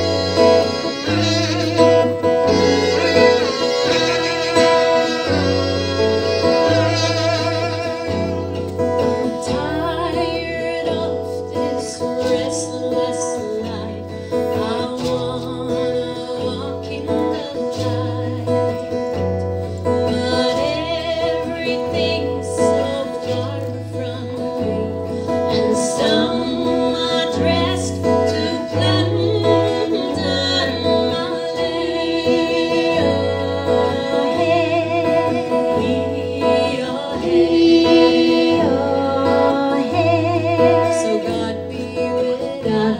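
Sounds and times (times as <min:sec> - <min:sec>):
strummed acoustic guitar: 0:00.0 - 0:42.9
women singing: 0:00.0 - 0:42.9.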